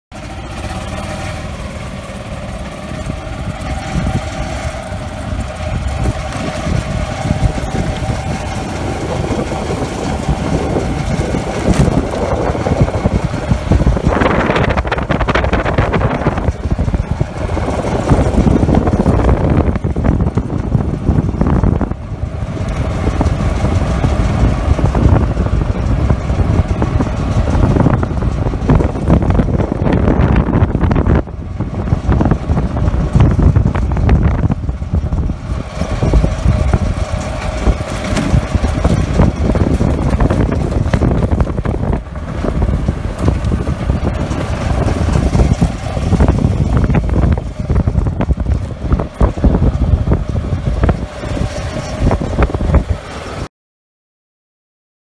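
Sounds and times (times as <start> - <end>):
vehicle running noise: 0.0 - 53.5
wind buffeting microphone: 0.1 - 53.5.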